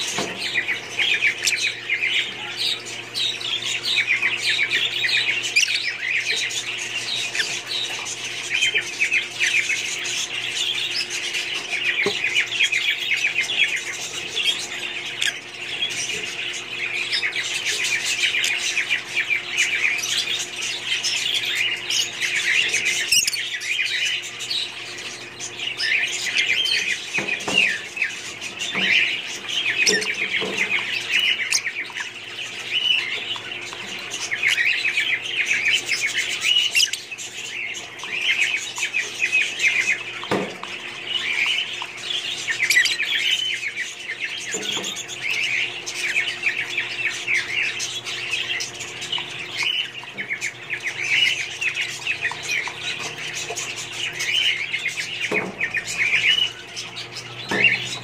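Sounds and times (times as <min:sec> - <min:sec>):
lovebirds chirping and squawking: 0:00.0 - 0:58.0.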